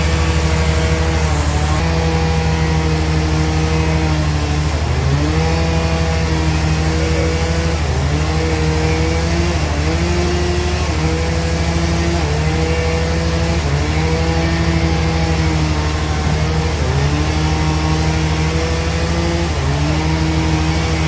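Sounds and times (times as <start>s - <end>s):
band saw running: 0.0s - 21.0s.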